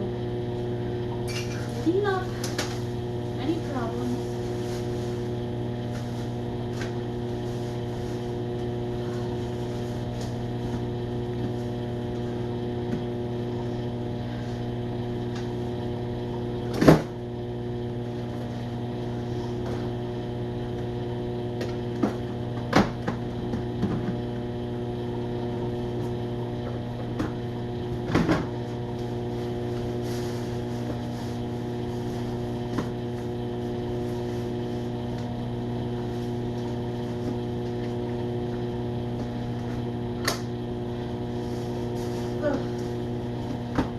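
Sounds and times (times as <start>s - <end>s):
appliance electrical hum: 0.0s - 43.9s.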